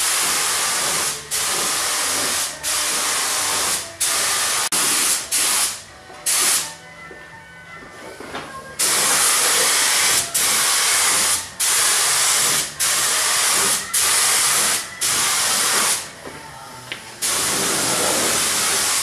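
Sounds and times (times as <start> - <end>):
paint spray gun hissing: 0.0 - 6.6, 8.8 - 16.0, 17.2 - 19.0.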